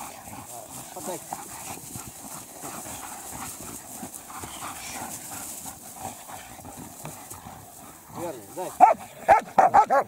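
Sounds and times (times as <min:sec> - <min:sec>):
dogs scuffling on grass: 0:00.0 - 0:09.5.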